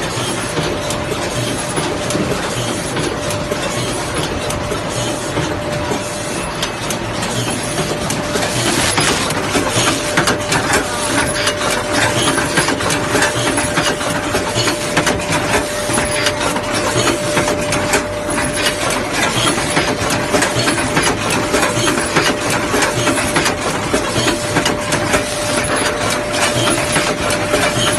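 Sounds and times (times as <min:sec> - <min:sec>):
machine clatter of fast clicks: 0:00.0 - 0:27.9
steady machine tone: 0:00.0 - 0:27.9.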